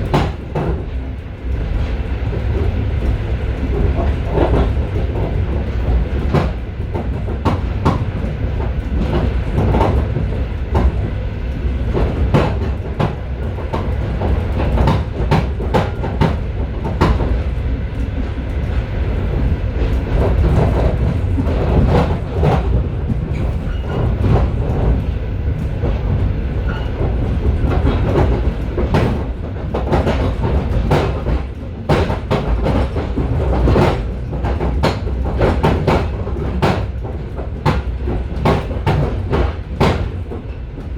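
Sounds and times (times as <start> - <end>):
train wheels rumbling on rails: 0.0 - 40.9
wheels clicking over rail joints: 0.0 - 40.9.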